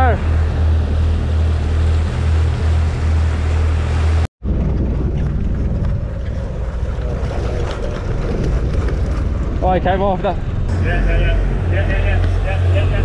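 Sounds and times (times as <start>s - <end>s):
motorboat engine running: 0.0s - 13.0s
rushing wake water: 0.0s - 13.0s
wind: 0.0s - 13.0s.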